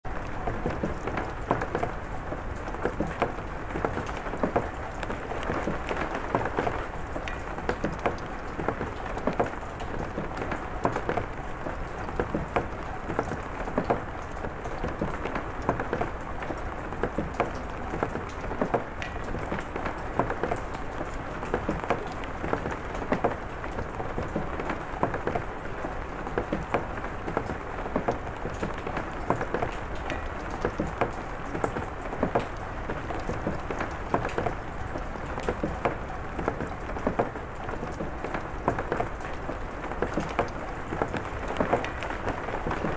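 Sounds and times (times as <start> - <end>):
rain drops pattering: 0.0 - 42.9.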